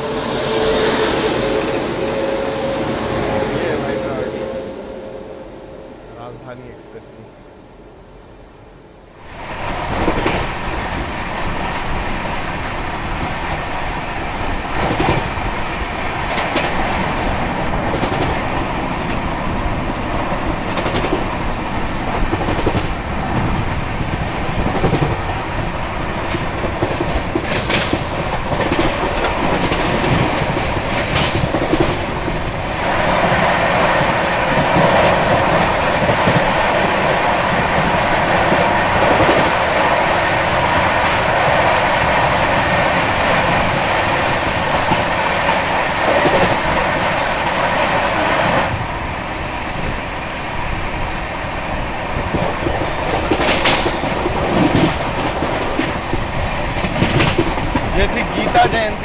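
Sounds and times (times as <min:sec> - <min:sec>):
passing train coaches: 0:00.0 - 0:59.0
train wheels rumbling on track: 0:00.0 - 0:59.0.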